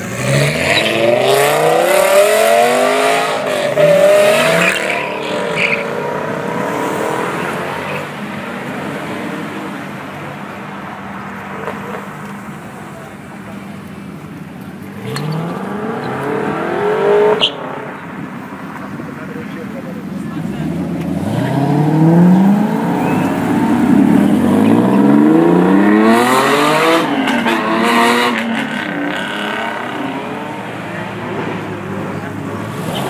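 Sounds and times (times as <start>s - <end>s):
car engine accelerating: 0.0s - 33.0s
second car engine revving: 0.0s - 33.0s.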